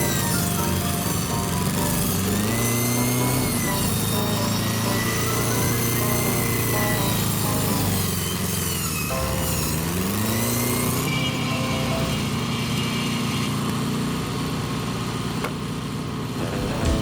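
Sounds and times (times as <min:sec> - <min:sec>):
engine revving: 0:00.0 - 0:13.1, 0:16.3 - 0:17.0.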